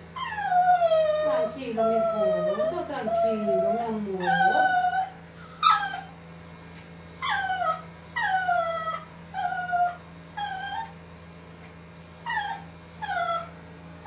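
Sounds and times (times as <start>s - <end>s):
puppy whimpering: 0.0s - 13.6s.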